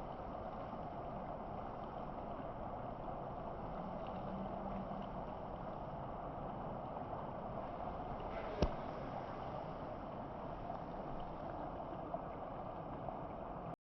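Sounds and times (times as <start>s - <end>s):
stream water rushing: 0.0s - 13.7s.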